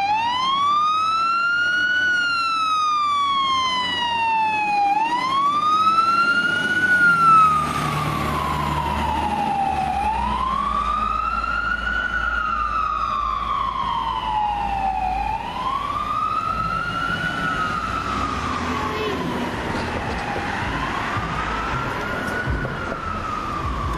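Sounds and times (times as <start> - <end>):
fire truck siren wailing: 0.0 - 23.9
truck engine rumble: 0.0 - 23.9.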